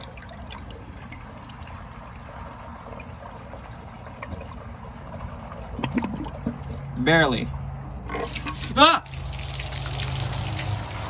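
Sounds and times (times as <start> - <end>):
toilet flushing: 0.0 - 6.9, 8.1 - 11.0.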